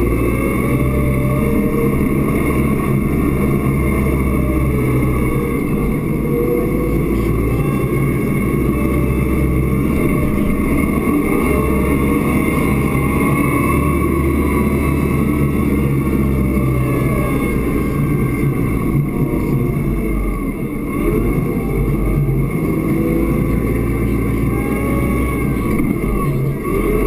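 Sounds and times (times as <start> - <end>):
steady whining tones: 0.0 - 27.0
tractor engine under load: 0.0 - 27.0.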